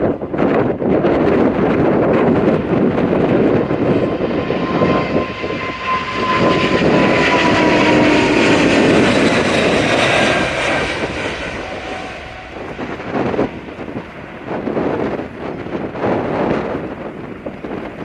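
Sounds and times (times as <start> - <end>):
jet engines roaring and whining: 0.0 - 18.0.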